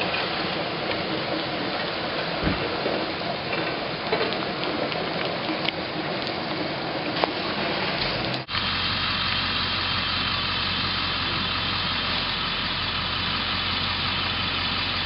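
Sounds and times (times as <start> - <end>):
rain on standing water: 0.0 - 15.0.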